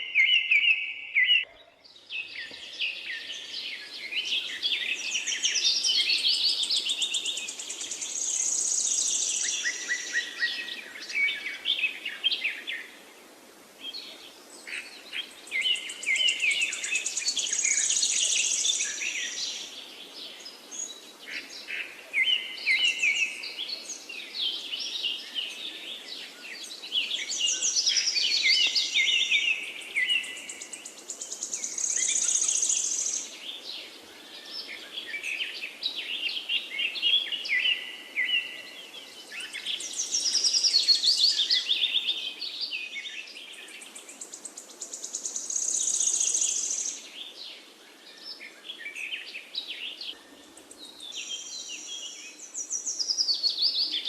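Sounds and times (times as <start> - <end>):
songbirds singing: 0.0 - 54.0
faint steady hiss: 1.9 - 54.0.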